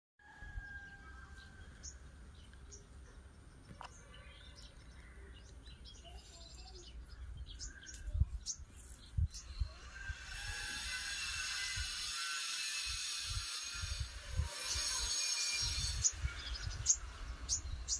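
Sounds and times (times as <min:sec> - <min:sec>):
birds chirping: 0:00.6 - 0:13.6, 0:14.6 - 0:17.9.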